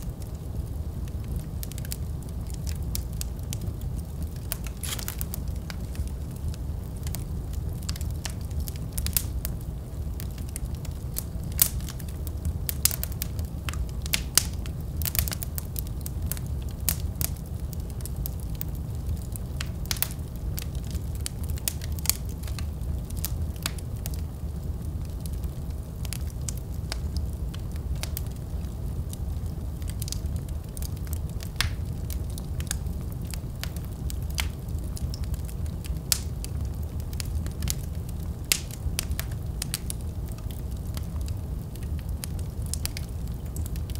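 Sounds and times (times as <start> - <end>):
fire crackling and popping: 0.0 - 43.9
fire rumbling: 0.0 - 43.9.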